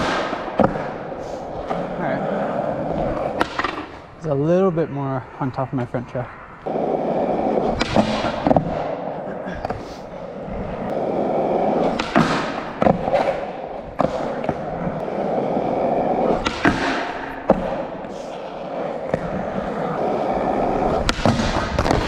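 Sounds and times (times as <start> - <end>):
skateboard clacking: 0.0 - 4.0, 6.6 - 22.0
skateboard wheels rolling on concrete: 0.0 - 22.0.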